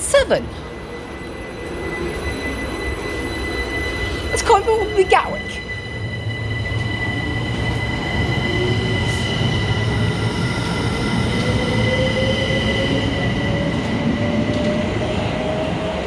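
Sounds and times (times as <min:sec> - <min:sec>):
high-pitched whining tones: 0:00.0 - 0:16.0
traction motors whining: 0:00.0 - 0:16.0
train rumble: 0:00.0 - 0:16.0.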